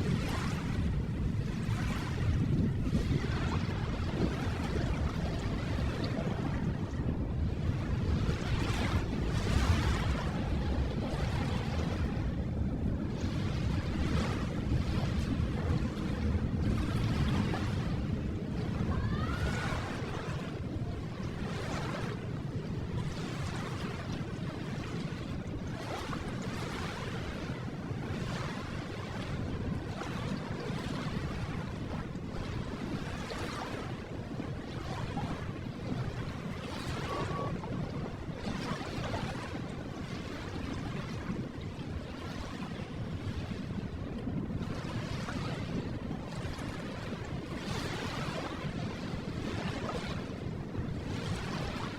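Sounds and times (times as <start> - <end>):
ocean waves washing onto shore: 0.0 - 51.9.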